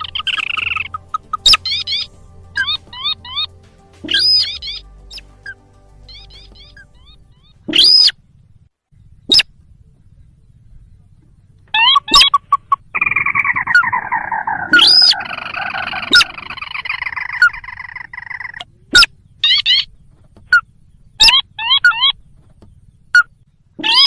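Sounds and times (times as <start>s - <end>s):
crake chirps and trilled call: 0.0s - 8.2s, 9.0s - 9.6s, 11.6s - 24.0s.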